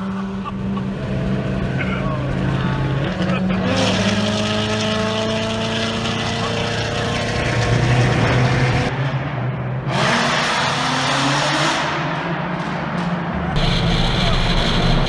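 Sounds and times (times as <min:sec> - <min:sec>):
car engines at highway speed: 0:00.0 - 0:15.0
engine accelerating: 0:00.0 - 0:15.0.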